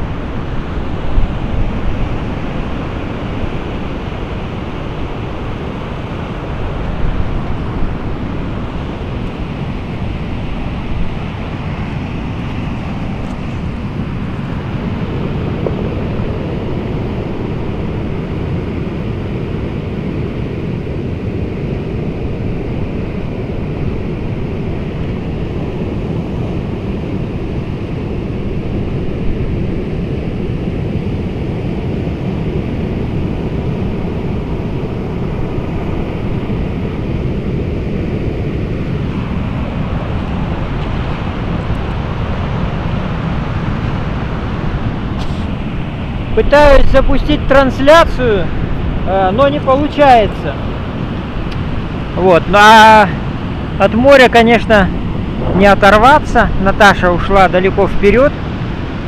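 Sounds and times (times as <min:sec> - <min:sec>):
surf rumbling on stony beach: 0:00.0 - 0:59.0
wind buffeting microphone: 0:00.0 - 0:59.0.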